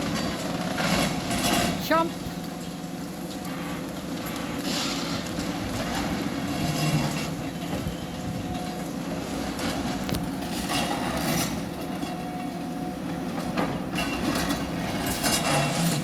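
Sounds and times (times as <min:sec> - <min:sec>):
excavator engine running: 0:00.0 - 0:16.0
rubble crunching and clanking: 0:00.0 - 0:16.0.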